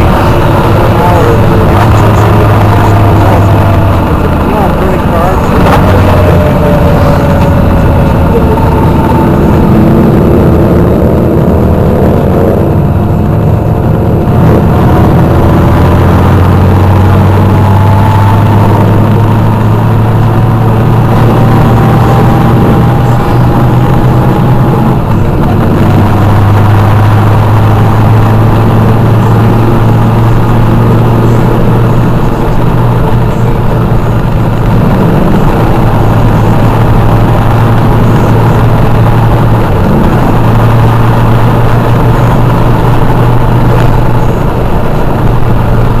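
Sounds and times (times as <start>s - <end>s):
motorcycle engines running: 0.0s - 46.0s
rising engine tone: 0.0s - 46.0s.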